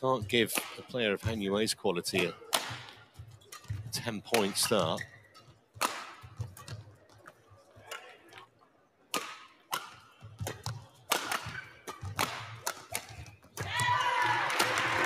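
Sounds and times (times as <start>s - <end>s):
rackets hitting shuttlecock: 0.4s - 0.9s, 2.1s - 8.4s, 9.1s - 14.8s.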